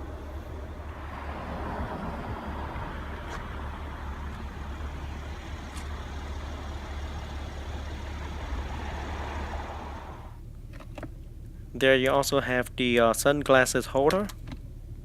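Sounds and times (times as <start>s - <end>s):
traffic rumble and hiss: 0.0s - 15.0s.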